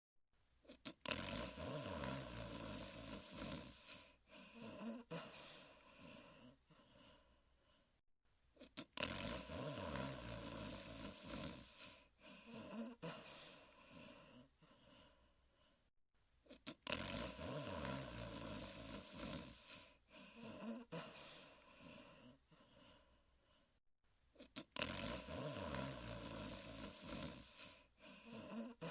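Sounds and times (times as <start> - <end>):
cartoon dog snoring: 0.6 - 8.0, 8.6 - 23.8, 24.4 - 28.9.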